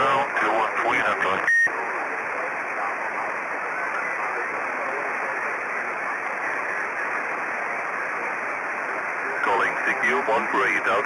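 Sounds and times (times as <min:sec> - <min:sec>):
faint weak radio signals: 0:00.0 - 0:11.0
radio static hiss: 0:00.0 - 0:11.0.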